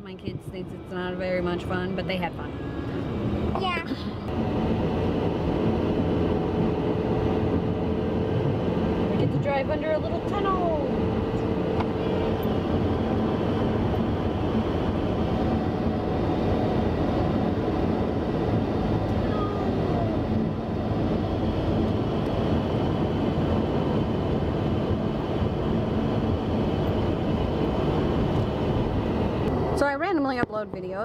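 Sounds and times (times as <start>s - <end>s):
car engine cruising: 0.1s - 30.2s.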